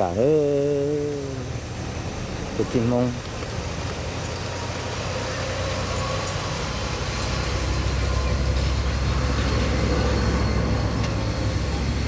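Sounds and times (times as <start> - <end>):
faint steady whine: 0.0 - 12.0
vehicle engine and road noise: 0.0 - 12.0.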